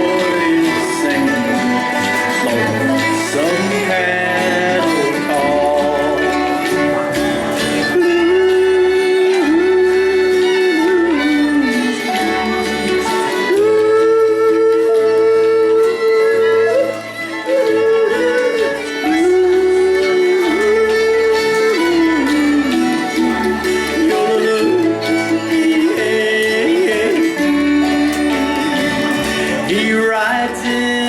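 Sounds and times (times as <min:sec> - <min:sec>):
sliding lead melody: 0:00.0 - 0:31.0.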